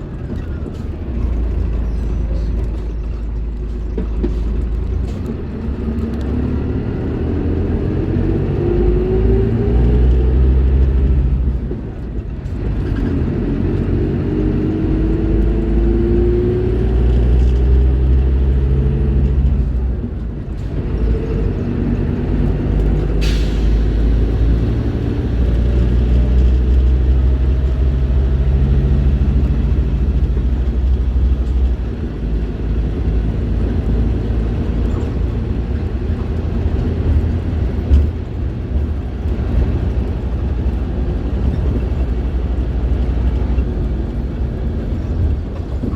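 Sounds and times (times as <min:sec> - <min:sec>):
bus diesel engine running: 0:00.0 - 0:45.9.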